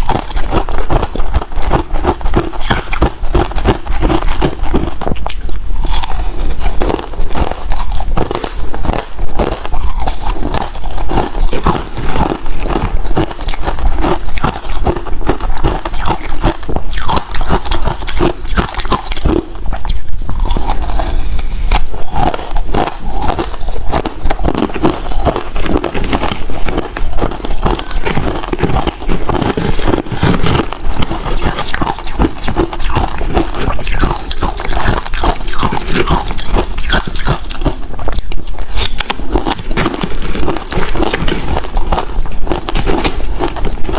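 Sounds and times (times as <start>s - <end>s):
ice being chewed: 0.0s - 43.9s.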